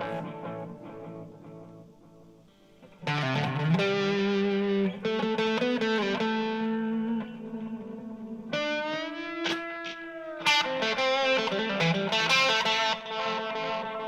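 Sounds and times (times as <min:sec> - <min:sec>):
electric guitar with delay: 0:00.0 - 0:14.0.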